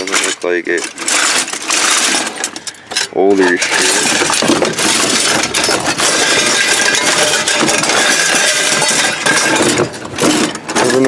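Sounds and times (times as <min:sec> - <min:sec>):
metal utensils clattering: 0:00.0 - 0:11.0.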